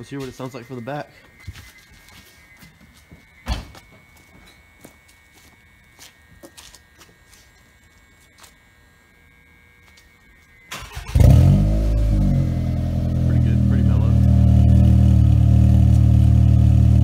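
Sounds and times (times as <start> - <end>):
faint steady high tone: 0.0 - 14.8.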